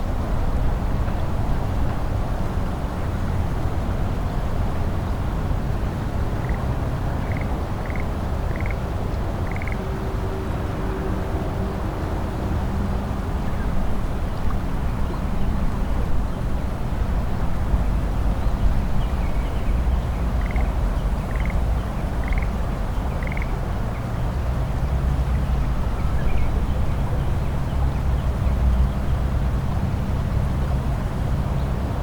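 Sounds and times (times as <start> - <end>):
distant traffic rumble: 0.0 - 32.0.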